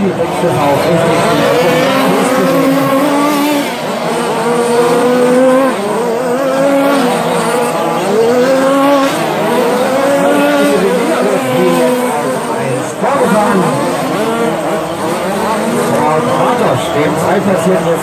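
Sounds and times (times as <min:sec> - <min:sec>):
rc truck motors racing: 0:00.0 - 0:18.0.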